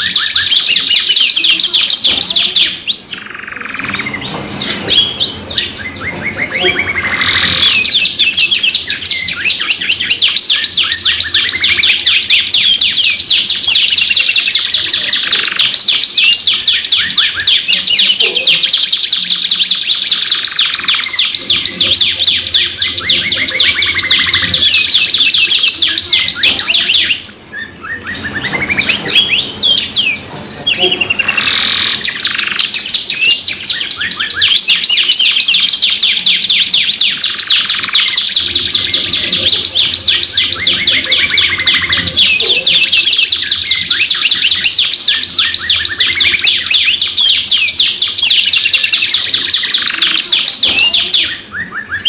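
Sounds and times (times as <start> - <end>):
canaries singing trills: 0.0 - 52.0.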